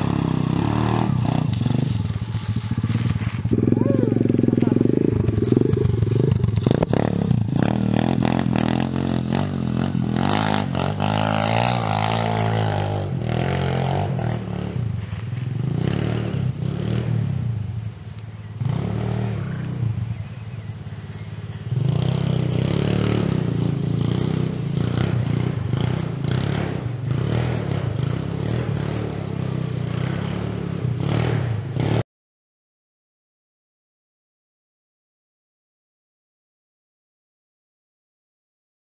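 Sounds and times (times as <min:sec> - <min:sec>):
motorbike engine revving: 0:00.0 - 0:17.9, 0:18.5 - 0:32.0.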